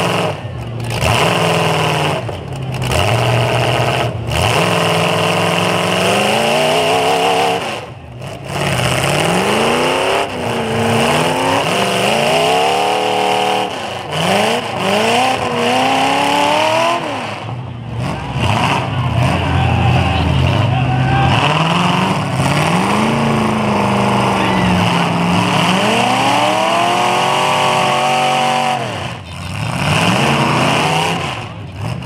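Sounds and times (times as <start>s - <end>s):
car engines revving hard: 0.0s - 32.0s.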